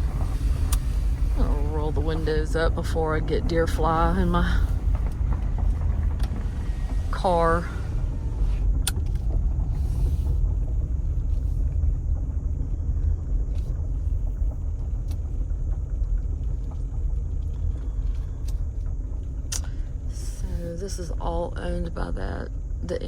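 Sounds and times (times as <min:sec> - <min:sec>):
car driving rumble inside cabin: 0:00.0 - 0:23.0.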